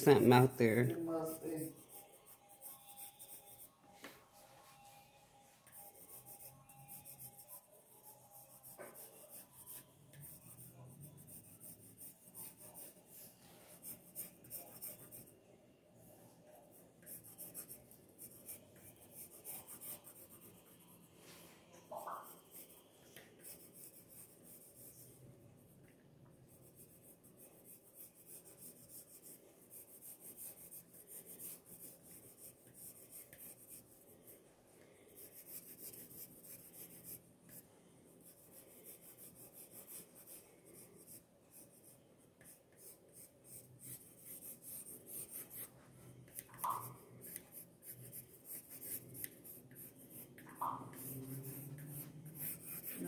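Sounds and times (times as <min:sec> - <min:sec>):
pencil sketching on paper: 0:00.0 - 0:53.0.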